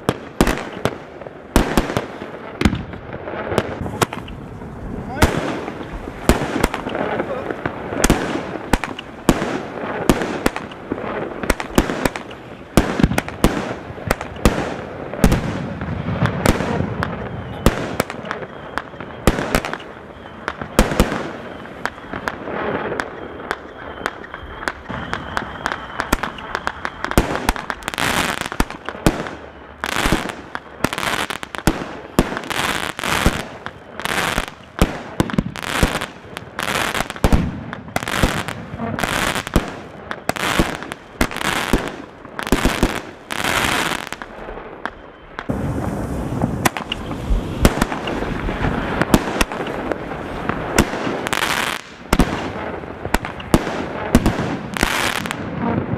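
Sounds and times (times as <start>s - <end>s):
firework barrage shots and bursts: 0.0s - 55.9s.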